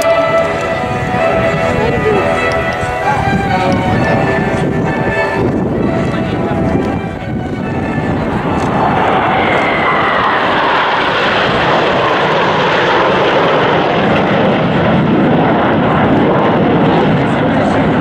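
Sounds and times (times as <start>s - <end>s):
jet engine whine: 0.0s - 18.0s
jet engines roaring past: 0.0s - 18.0s.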